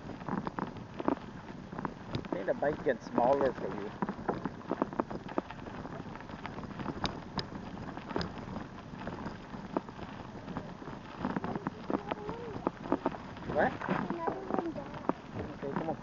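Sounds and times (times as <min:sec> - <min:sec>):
bicycle rolling over rough ground: 0:00.0 - 0:16.0
clicks and crackles: 0:00.0 - 0:16.0.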